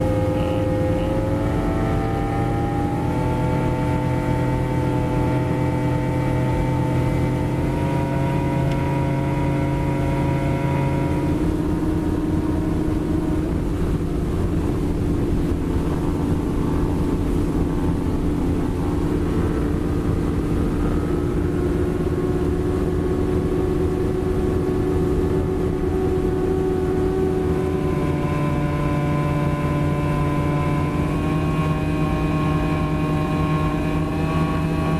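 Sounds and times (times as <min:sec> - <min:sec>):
boat outboard motors running: 0:00.0 - 0:34.9.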